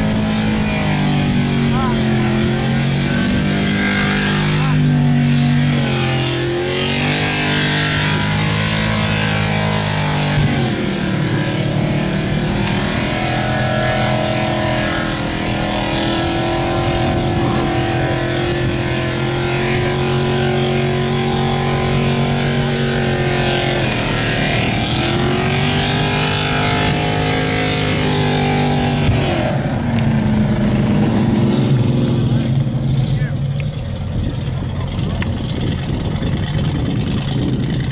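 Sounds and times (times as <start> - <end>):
engine revving at high revs: 0.0 - 37.9
tyres spinning on asphalt: 0.0 - 37.9.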